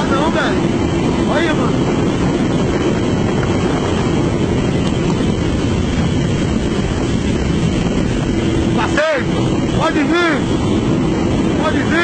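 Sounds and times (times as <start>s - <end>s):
motorcycle engine drone: 0.0s - 12.0s
wind buffeting microphone: 0.0s - 12.0s.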